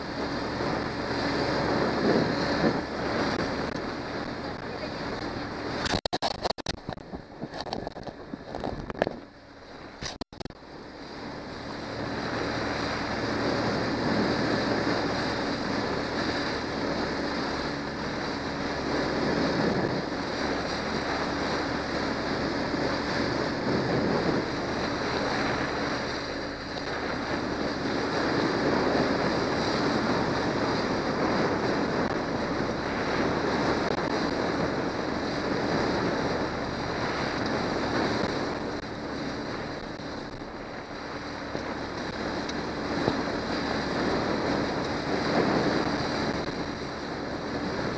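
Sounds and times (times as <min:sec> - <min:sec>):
outboard motor running: 0:00.0 - 0:47.9
water slapping against hull: 0:00.0 - 0:47.9
wind buffeting microphone: 0:00.0 - 0:47.9.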